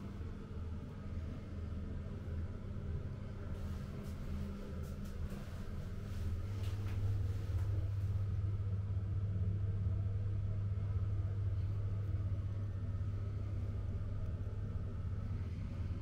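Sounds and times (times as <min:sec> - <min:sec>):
low rumble with deep hum: 0:00.0 - 0:16.0.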